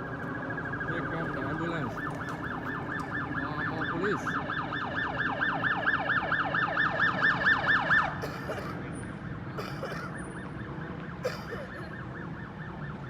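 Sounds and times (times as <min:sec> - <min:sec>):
emergency siren yelping: 0:00.0 - 0:13.0
faint siren: 0:00.0 - 0:13.0.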